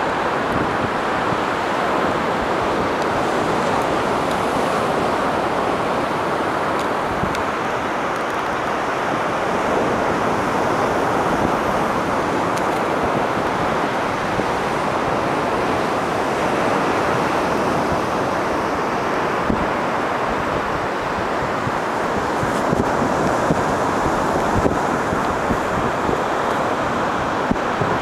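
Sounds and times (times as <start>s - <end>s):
ocean surf: 0.0s - 28.0s
wind: 0.0s - 28.0s.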